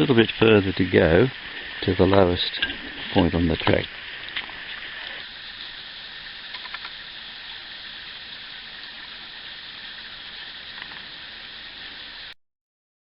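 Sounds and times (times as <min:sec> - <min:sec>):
stream water running over rocks: 0:00.0 - 0:12.4.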